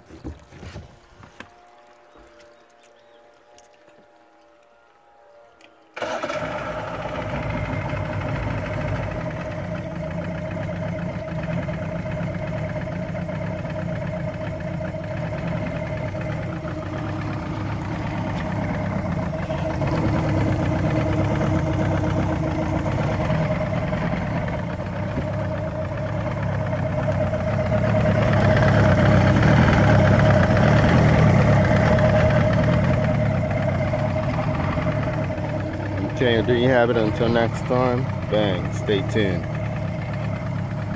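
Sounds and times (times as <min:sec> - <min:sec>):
outboard motor running: 0:00.0 - 0:04.0, 0:06.0 - 0:40.9.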